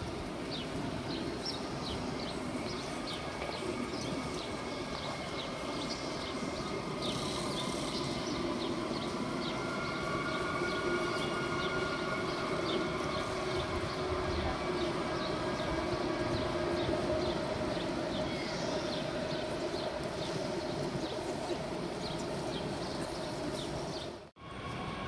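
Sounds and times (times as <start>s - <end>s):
echoing station hall noise: 0.0s - 25.0s
train equipment humming: 0.0s - 25.0s.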